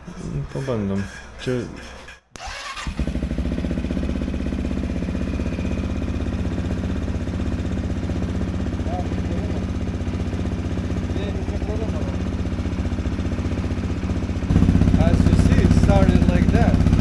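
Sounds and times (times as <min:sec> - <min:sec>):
motorcycle engine idling: 0:02.4 - 0:17.0.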